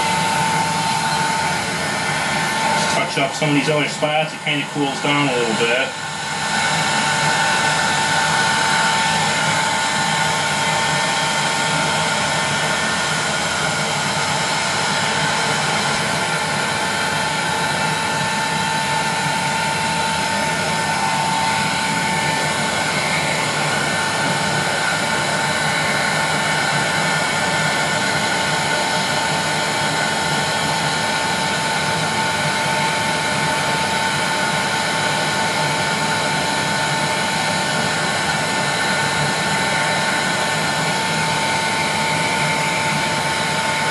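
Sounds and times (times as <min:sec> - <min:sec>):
heat gun blowing with a whine: 0:00.0 - 0:43.9.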